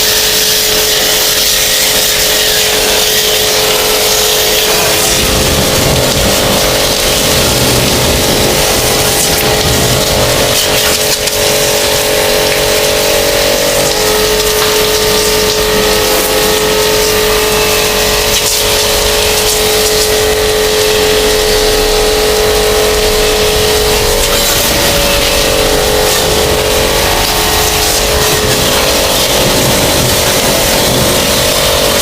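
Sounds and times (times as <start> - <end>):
pressure washer motor whine: 0.0 - 32.0
water jet hissing: 0.0 - 32.0.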